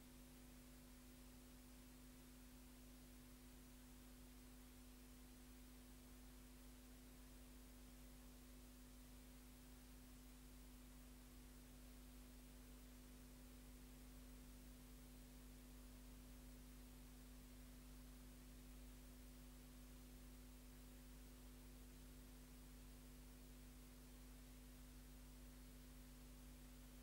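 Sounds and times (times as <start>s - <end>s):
faint electrical hum with hiss: 0.0s - 27.0s.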